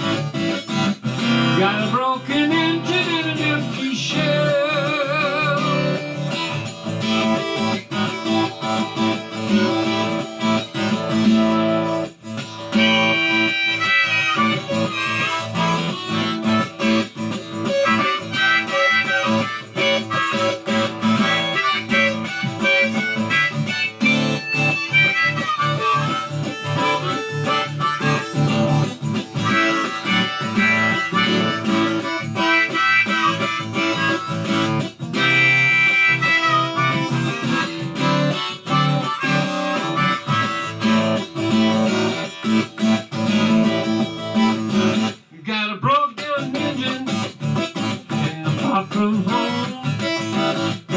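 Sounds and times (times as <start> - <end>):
harmonica melody: 0.0 - 45.3, 46.2 - 50.9
acoustic guitar strumming: 0.0 - 50.9.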